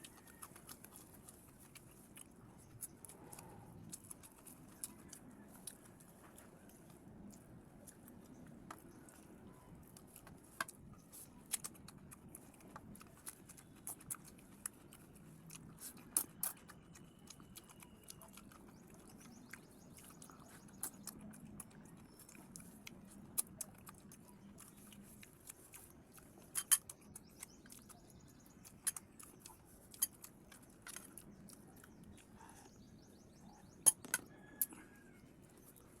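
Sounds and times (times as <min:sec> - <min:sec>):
food crunching and clicking: 0:00.0 - 0:36.0
quiet chewing: 0:00.0 - 0:36.0.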